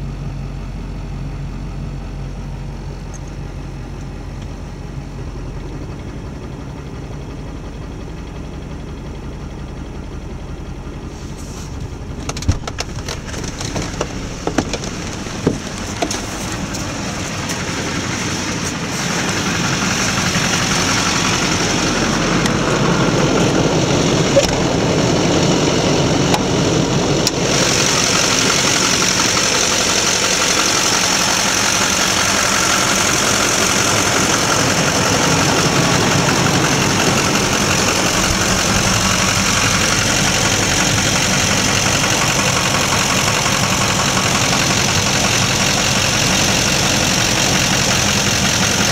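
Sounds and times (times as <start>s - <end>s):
diesel truck engine idling rough: 0.0s - 48.9s.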